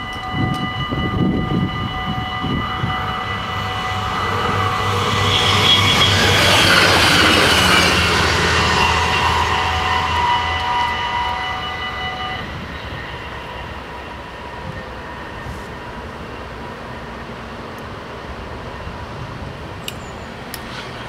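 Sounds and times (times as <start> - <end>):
level crossing warning bells: 0.0 - 17.0
train passing: 0.0 - 21.0.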